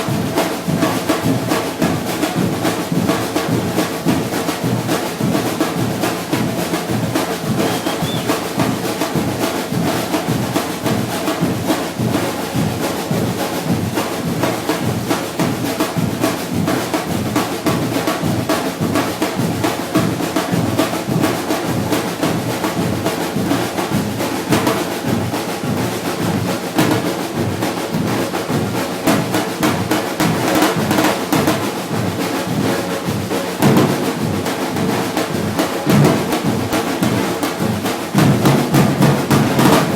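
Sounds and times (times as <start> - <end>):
percussion group drumming: 0.0 - 39.9.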